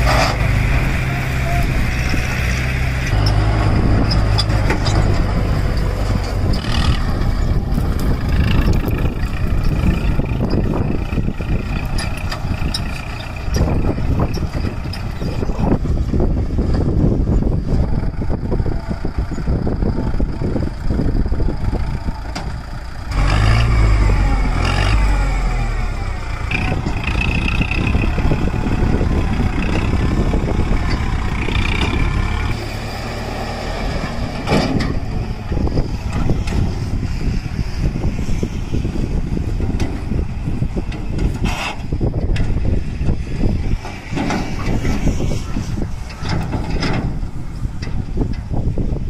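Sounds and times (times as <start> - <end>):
tractor diesel engine under load: 0.0 - 49.0.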